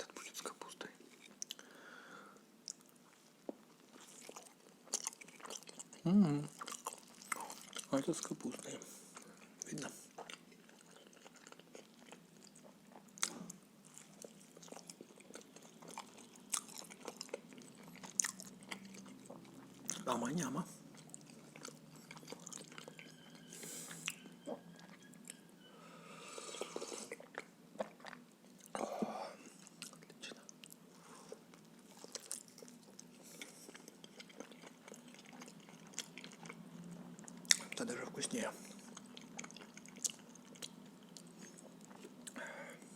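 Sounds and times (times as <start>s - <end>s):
faint low hum: 0.0s - 42.9s
person chewing food: 1.0s - 1.8s, 2.6s - 25.6s, 26.2s - 37.8s, 38.7s - 42.9s.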